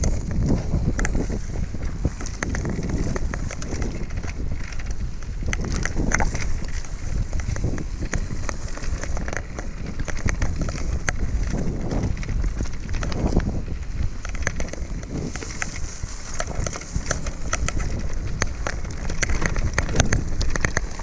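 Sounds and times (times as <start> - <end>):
bike clicks and rattles: 0.0 - 21.0
wind buffeting microphone: 0.0 - 21.0.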